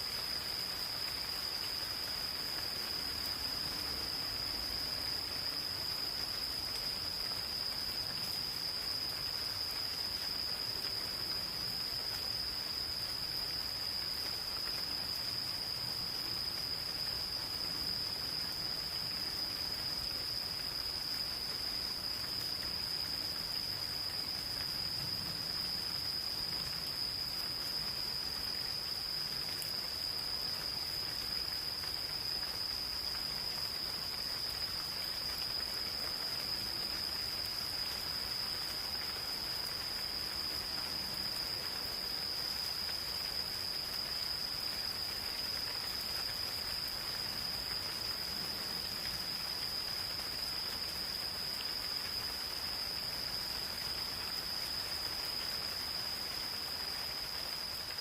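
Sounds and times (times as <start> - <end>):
insects trilling: 0.0 - 58.0
light rain pattering: 0.0 - 58.0.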